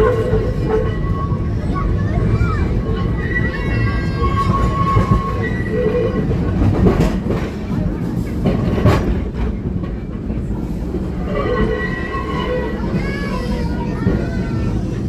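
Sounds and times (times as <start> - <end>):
tram wheels rumbling: 0.0 - 15.0
wheels clacking on track: 0.0 - 15.0.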